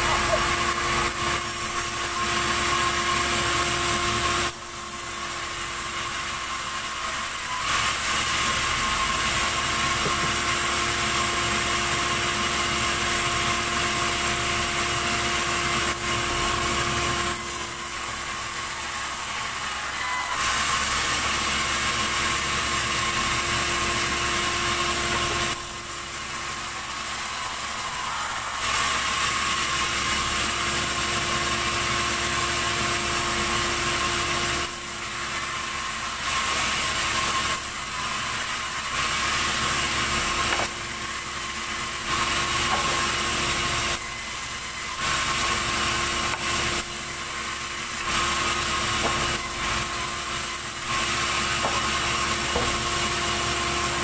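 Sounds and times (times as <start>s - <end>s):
sawmill saw cutting timber: 0.0s - 54.0s.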